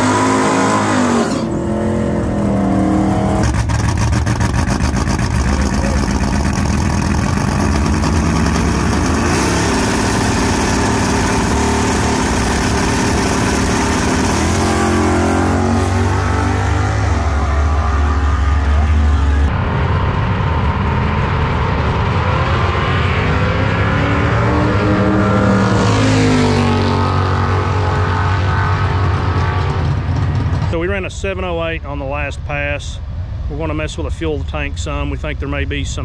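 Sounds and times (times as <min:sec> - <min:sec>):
cars accelerating: 0:00.0 - 0:30.4
car engines idling and revving: 0:00.0 - 0:36.0.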